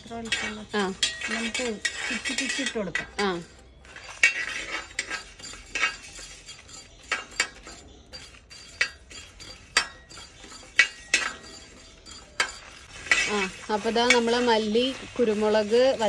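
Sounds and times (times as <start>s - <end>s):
spoon scraping and clinking a pan: 0.0s - 16.0s.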